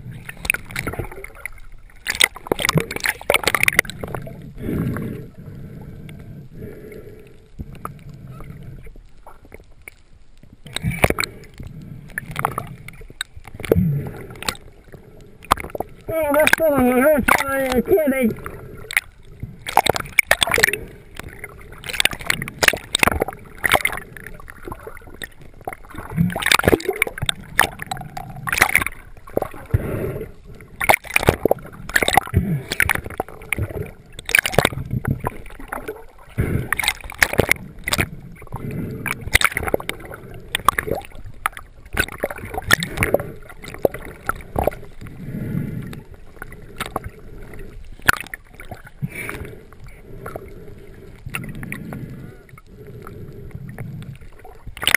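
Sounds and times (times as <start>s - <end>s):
water splashing and gurgling: 0.0s - 54.9s.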